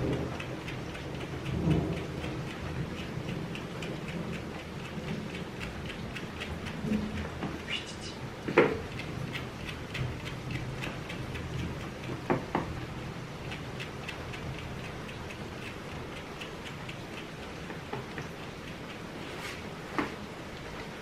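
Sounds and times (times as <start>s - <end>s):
hair plucking ticking snaps: 0.0s - 19.2s.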